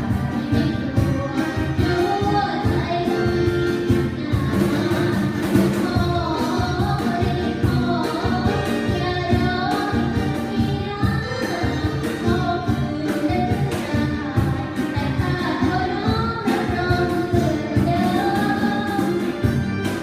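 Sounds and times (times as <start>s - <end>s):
lead singer singing: 0.0s - 20.0s
live band playing: 0.0s - 20.0s
steady drum beat: 0.0s - 20.0s.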